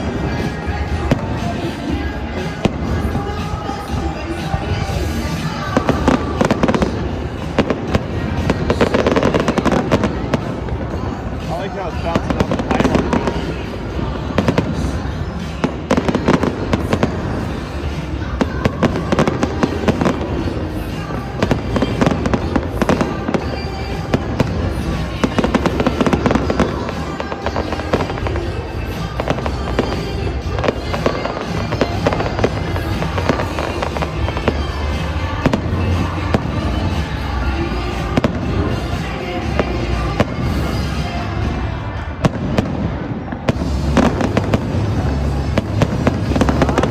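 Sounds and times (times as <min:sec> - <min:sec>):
fireworks bangs and crackles: 0:00.0 - 0:46.9
music playing: 0:00.0 - 0:46.9.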